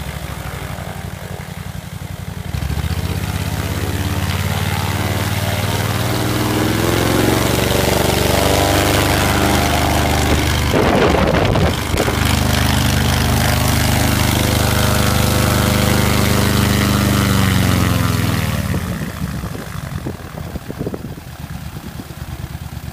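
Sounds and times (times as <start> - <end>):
engine and propeller running: 0.0 - 22.9.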